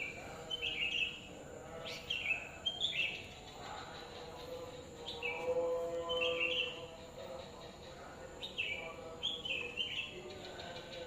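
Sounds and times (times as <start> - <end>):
distant person singing: 0.0 - 11.0
outdoor background hiss: 0.0 - 11.0
songbird chirping: 0.0 - 11.0.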